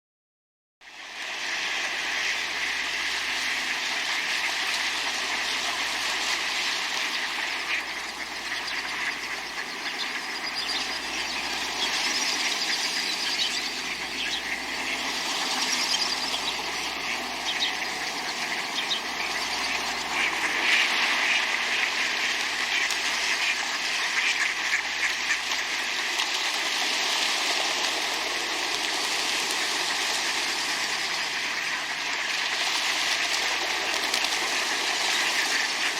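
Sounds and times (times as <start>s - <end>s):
ducks splashing in water: 1.2s - 35.9s
ducks quacking: 1.8s - 35.9s.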